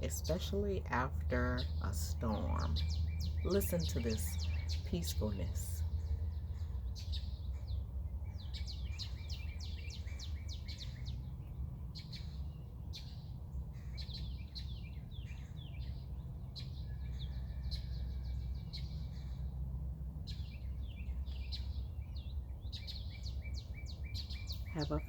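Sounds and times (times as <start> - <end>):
songbirds chirping: 0.0 - 25.0
steady low rumble: 0.0 - 25.0.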